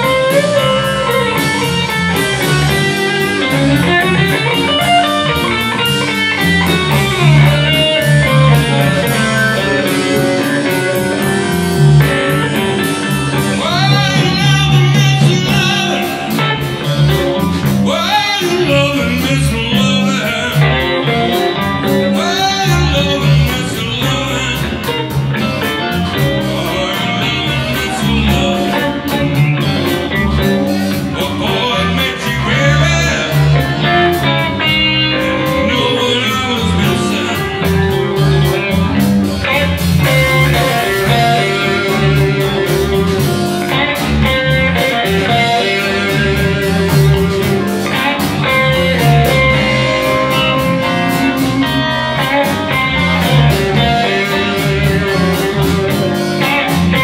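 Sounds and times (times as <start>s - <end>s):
bass guitar: 0.0s - 57.0s
drums: 0.0s - 57.0s
electric guitars: 0.0s - 57.0s.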